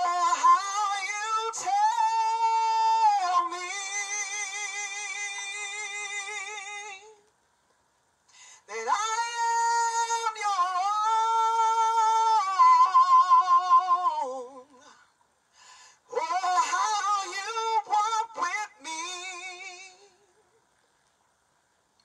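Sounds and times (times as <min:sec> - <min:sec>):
woman singing unaccompanied: 0:00.0 - 0:07.3, 0:08.6 - 0:15.1, 0:16.1 - 0:20.5.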